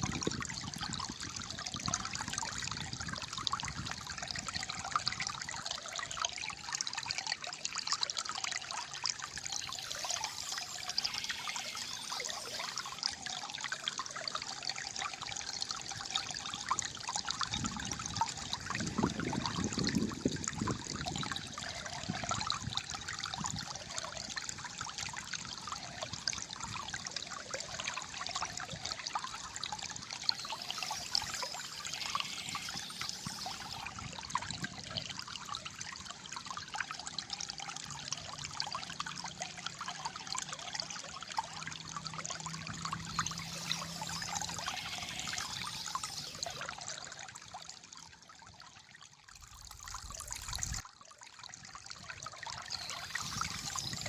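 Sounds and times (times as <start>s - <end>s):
shallow water trickling and gurgling: 0.0s - 54.0s.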